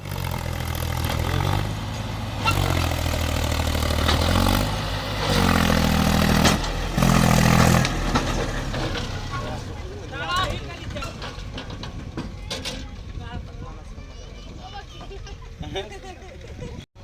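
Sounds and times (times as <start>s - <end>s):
diesel engine revving: 0.0s - 16.8s.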